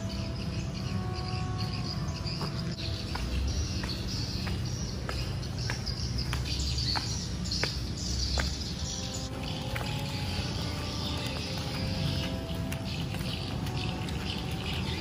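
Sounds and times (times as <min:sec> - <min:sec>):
bird chirps: 0:00.0 - 0:15.0
footsteps on tiled floor: 0:01.6 - 0:15.0.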